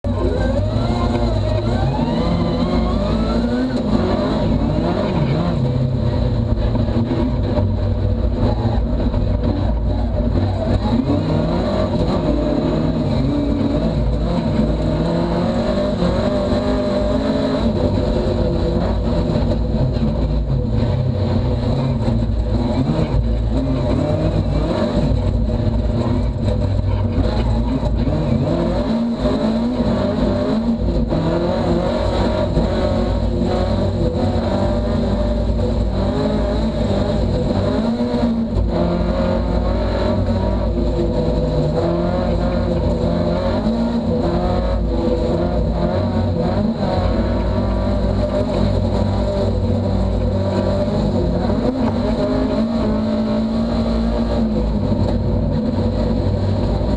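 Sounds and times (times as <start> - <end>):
rally car engine accelerating: 0.0 - 56.9.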